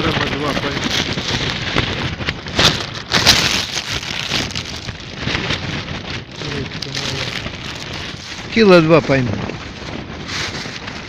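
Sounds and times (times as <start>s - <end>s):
strong gusty wind: 0.0s - 11.0s
tent fabric flapping: 0.0s - 11.0s.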